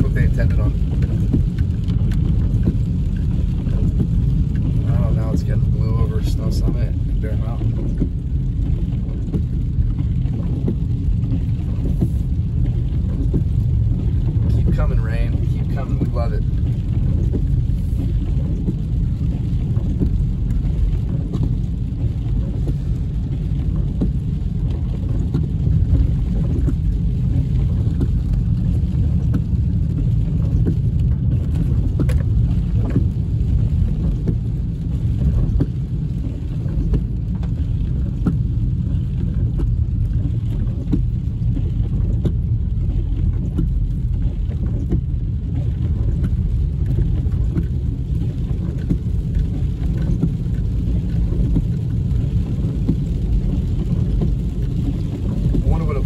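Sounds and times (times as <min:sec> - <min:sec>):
raindrops ticking on windshield: 0:00.0 - 0:56.0
road and engine rumble in car: 0:00.0 - 0:56.0.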